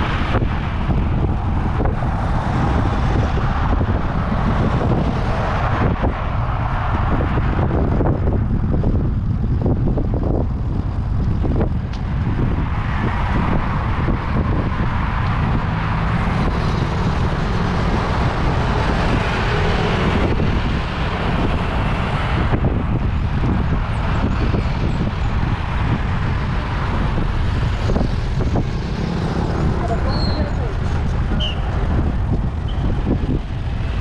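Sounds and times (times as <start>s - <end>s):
passing vehicle: 0.0s - 34.0s
road traffic: 0.0s - 34.0s
wind buffeting microphone: 0.0s - 34.0s.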